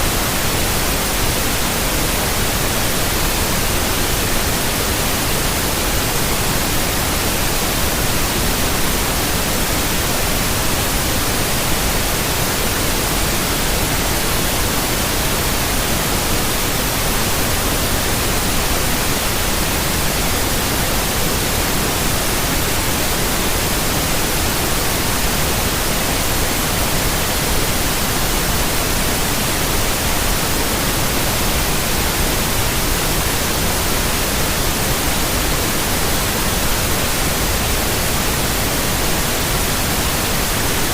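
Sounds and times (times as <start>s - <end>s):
white noise: 0.0s - 40.9s.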